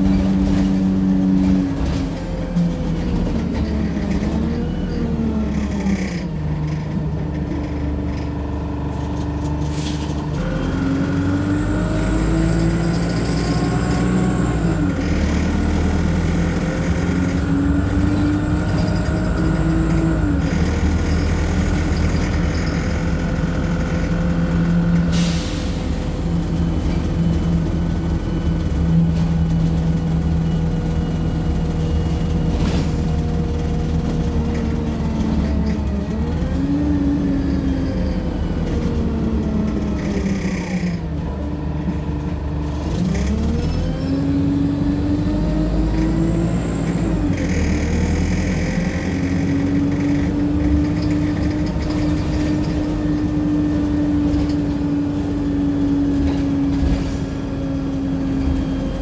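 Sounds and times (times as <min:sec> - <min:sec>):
bus engine: 0:00.0 - 0:59.0.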